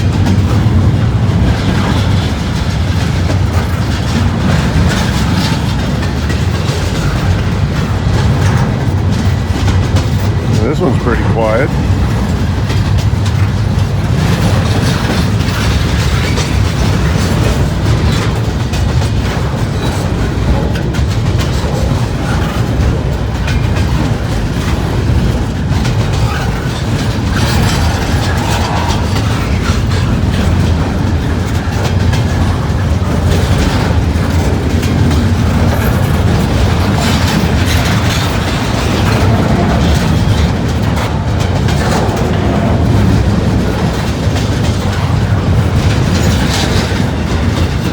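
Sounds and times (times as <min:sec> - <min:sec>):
wheels clacking over rail joints: 0:00.0 - 0:10.6, 0:11.7 - 0:47.9
freight train rumbling past: 0:00.0 - 0:47.9.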